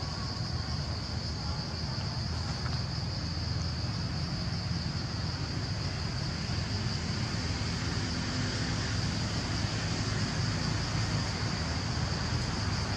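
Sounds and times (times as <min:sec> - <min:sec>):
insect chorus drone: 0:00.0 - 0:12.9.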